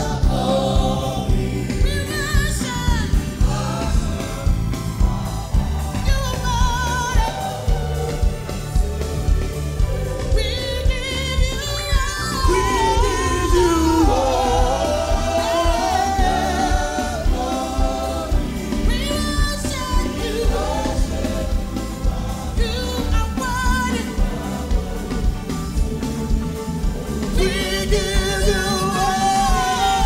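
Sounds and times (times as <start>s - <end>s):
gospel group singing with band: 0.0s - 30.0s.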